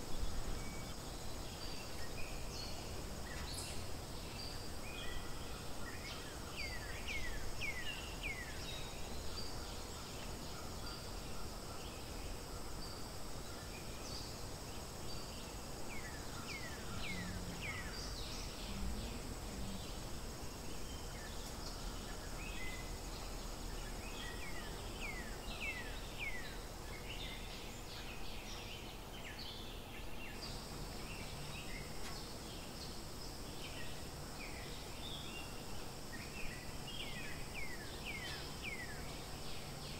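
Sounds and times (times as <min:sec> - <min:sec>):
birds chirping: 0:00.0 - 0:39.9
high insect drone: 0:00.0 - 0:39.9.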